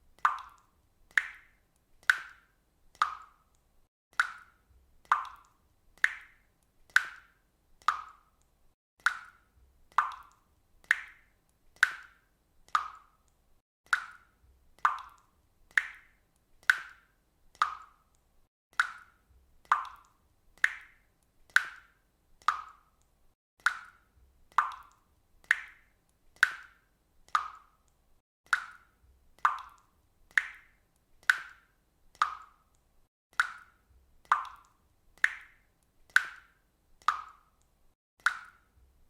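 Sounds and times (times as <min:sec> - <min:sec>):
water dripping: 0:00.0 - 0:39.0.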